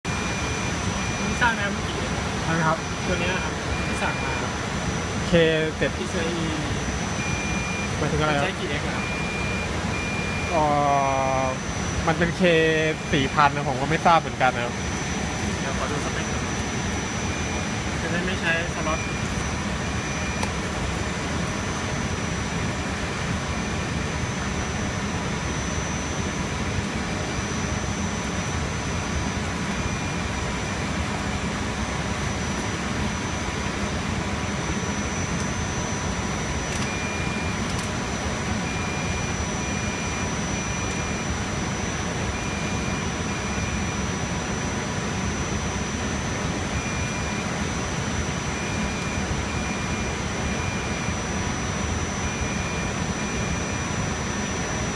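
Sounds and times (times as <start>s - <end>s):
high steady whine: 0.0s - 54.9s
server cooling fans whooshing: 0.1s - 54.9s.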